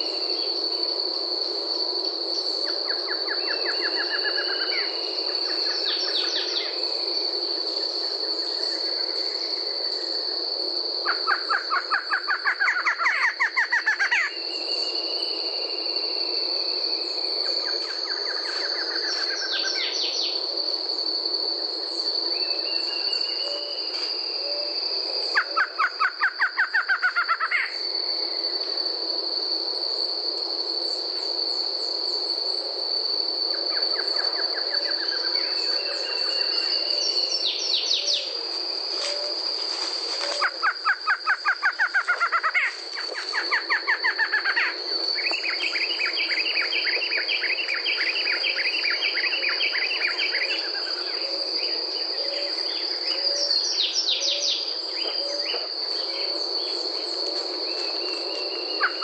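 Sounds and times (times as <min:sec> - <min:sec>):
high insect buzz: 0:00.0 - 0:59.0.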